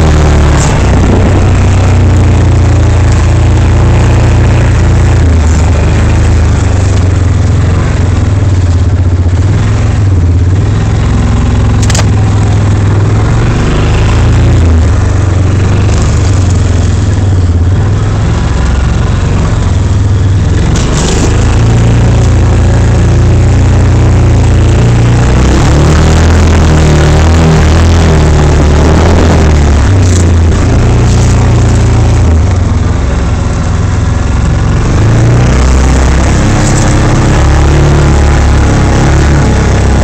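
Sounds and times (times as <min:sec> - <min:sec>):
engine running under load: 0:00.0 - 0:40.0.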